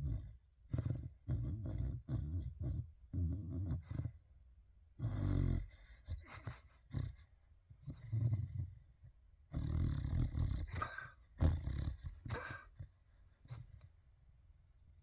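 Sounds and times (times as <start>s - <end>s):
dog snoring: 0.0s - 4.2s, 5.0s - 8.8s, 9.5s - 13.6s.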